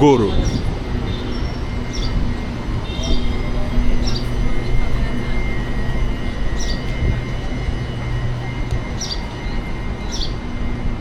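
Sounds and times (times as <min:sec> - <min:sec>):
electric train humming: 0:00.0 - 0:11.0.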